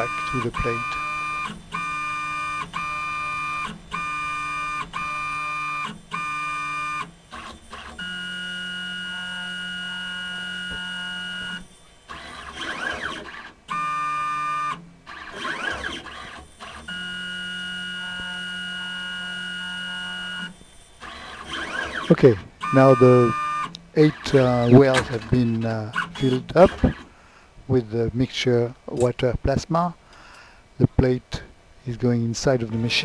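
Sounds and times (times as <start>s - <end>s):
stepper motors whining: 0.0s - 27.2s, 32.4s - 33.0s.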